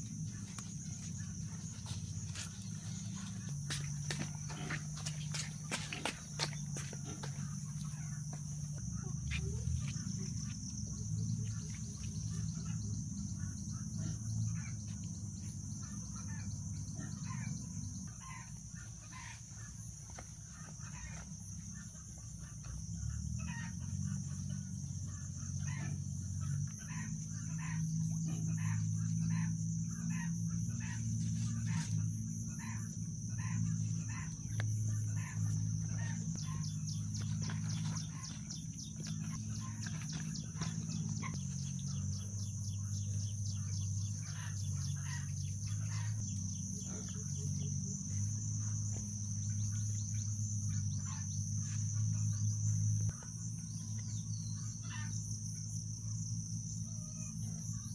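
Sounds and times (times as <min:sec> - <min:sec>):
high insect drone: 0:00.0 - 0:57.9.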